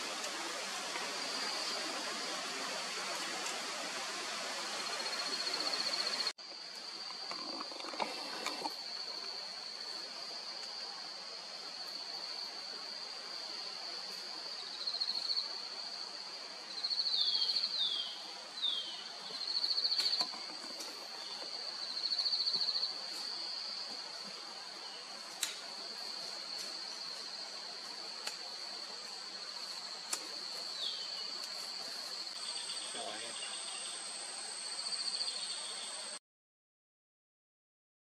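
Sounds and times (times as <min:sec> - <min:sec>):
pulsed insect trills: 0:00.0 - 0:36.2.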